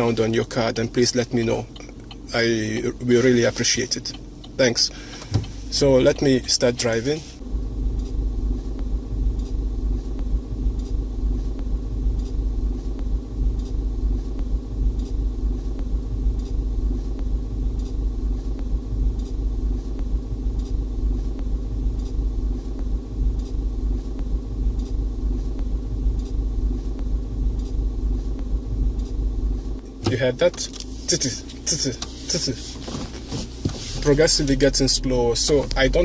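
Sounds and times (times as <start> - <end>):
low cabin and road rumble: 0.0 - 36.0.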